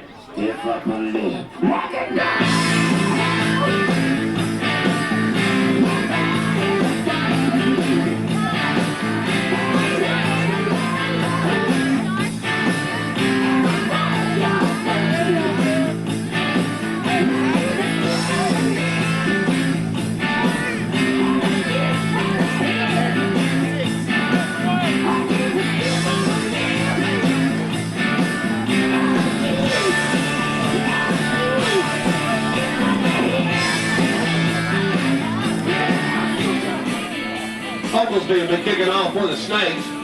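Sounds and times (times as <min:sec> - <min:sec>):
rock song with singing: 0:00.0 - 0:40.0.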